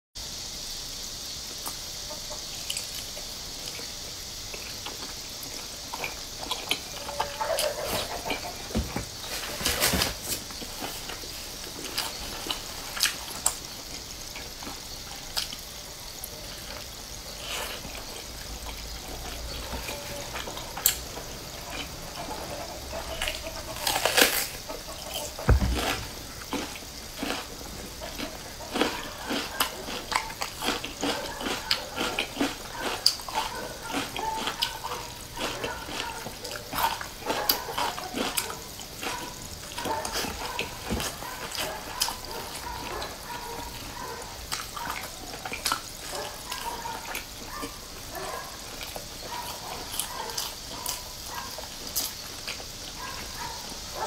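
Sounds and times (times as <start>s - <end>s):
wet chewing and mouth smacking: 2.6s - 8.7s, 10.6s - 16.8s, 17.4s - 54.0s.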